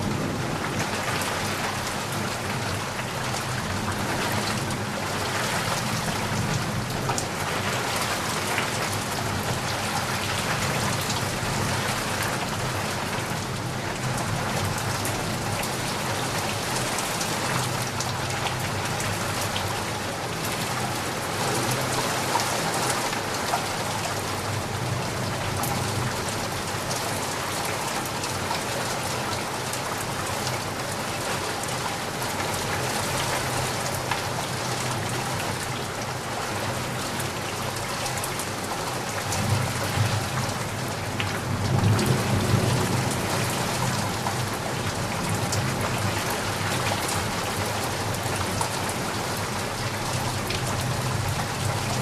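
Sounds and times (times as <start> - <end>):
rain pattering: 0.0 - 52.0.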